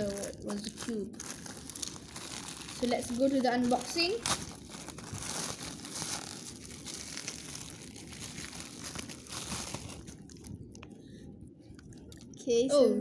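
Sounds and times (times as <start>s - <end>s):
plastic packaging crinkling: 0.0s - 11.0s, 11.8s - 12.4s.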